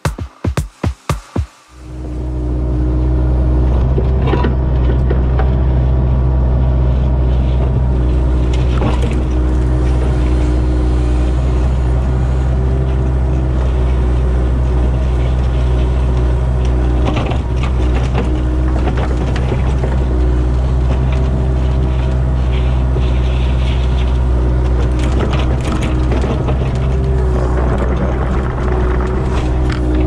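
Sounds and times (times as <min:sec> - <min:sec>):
excavator diesel engine: 0:01.8 - 0:30.0
hydraulics working: 0:01.8 - 0:30.0.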